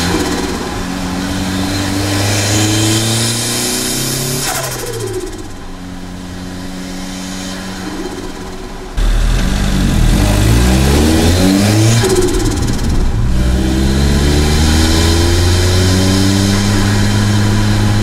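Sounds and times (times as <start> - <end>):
turbocharged car engine accelerating: 0.0 - 18.0.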